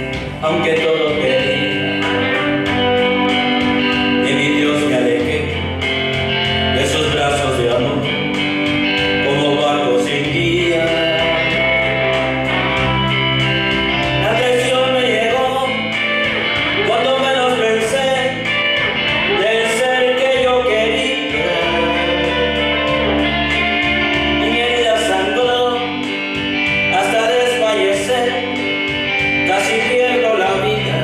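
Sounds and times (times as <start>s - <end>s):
man singing into a microphone: 0.0s - 5.9s, 6.6s - 8.4s, 9.0s - 12.9s, 14.1s - 26.2s, 26.8s - 31.0s
instrumental music with steady beat: 0.0s - 31.0s.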